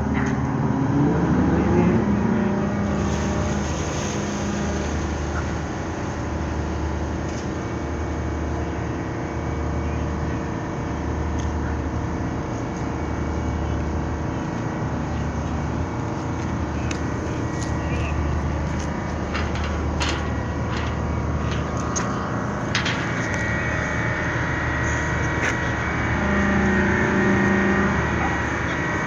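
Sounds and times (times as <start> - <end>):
ship engine drone: 0.0 - 29.0.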